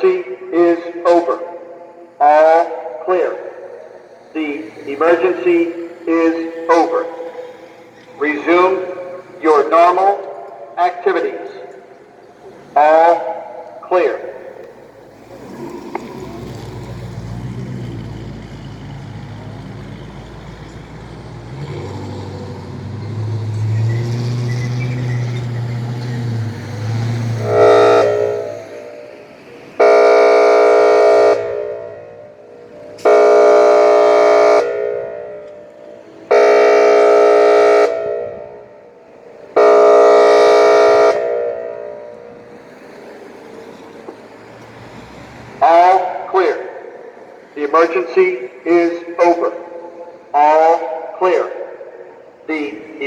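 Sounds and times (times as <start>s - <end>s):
warning siren horn blasts: 0.0s - 12.0s, 12.6s - 15.4s, 21.0s - 42.6s, 45.6s - 53.0s.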